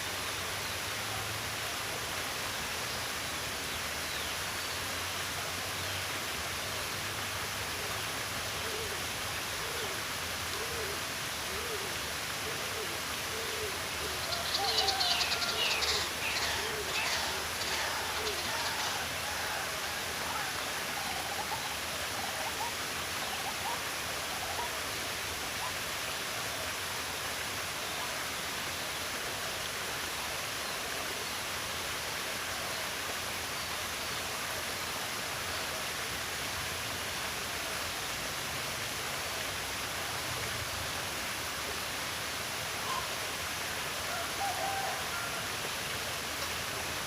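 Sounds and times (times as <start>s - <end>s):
running water rushing: 0.0s - 47.0s.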